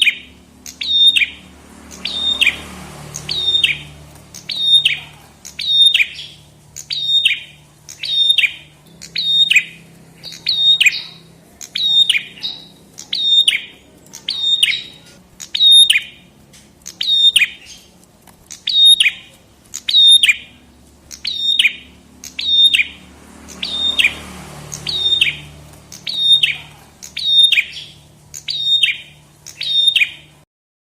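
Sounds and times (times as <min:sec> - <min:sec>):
small songbird calling: 0:00.0 - 0:30.4.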